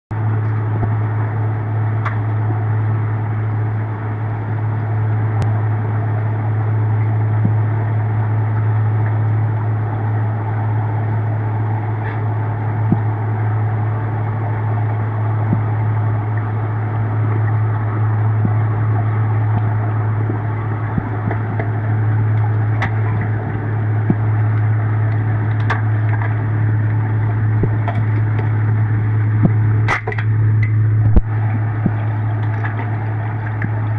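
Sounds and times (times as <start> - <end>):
underwater low hum and wash: 0.1 - 33.9.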